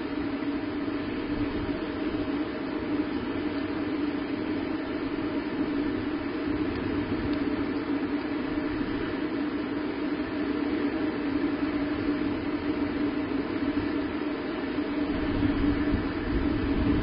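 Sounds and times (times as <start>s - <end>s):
constant low hum: 0.0s - 17.0s.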